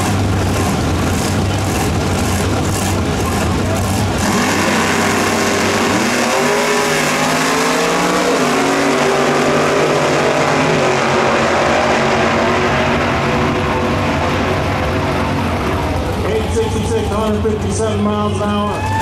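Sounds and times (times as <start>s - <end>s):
drag racing engines accelerating: 0.0s - 19.0s.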